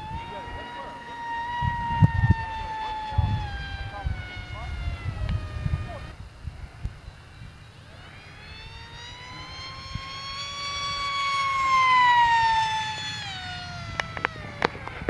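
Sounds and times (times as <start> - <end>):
model jet motor whine: 0.0 - 15.0.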